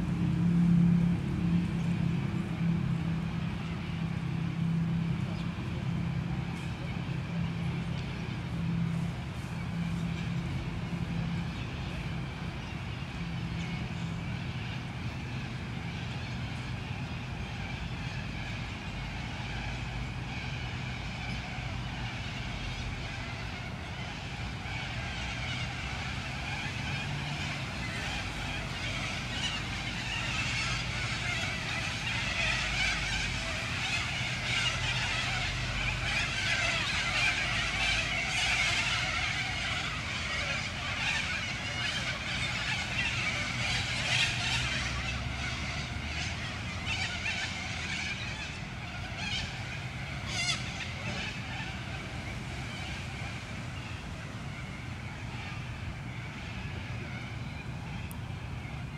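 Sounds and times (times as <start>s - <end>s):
distant city traffic hum: 0.0s - 58.9s.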